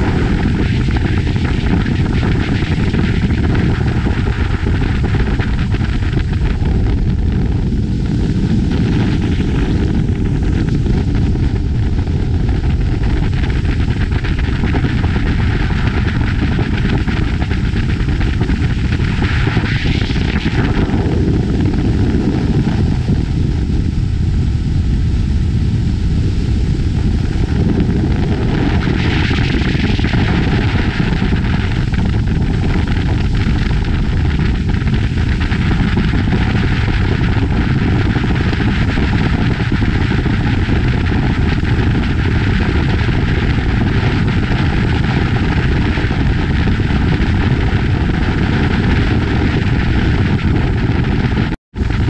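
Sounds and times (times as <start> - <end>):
motorboat engine drone: 0.0 - 52.0
wind: 0.0 - 52.0.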